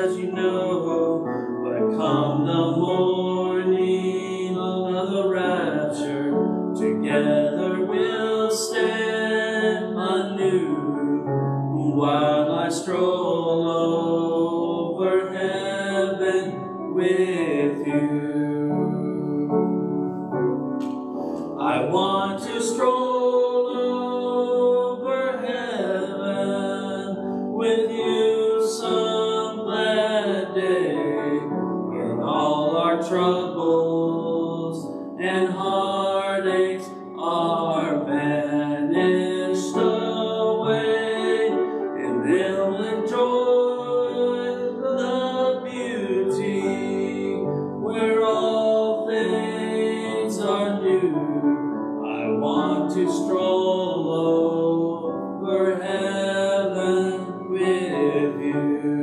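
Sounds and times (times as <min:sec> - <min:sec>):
woman and man singing: 0:00.0 - 0:19.4, 0:21.6 - 0:51.4.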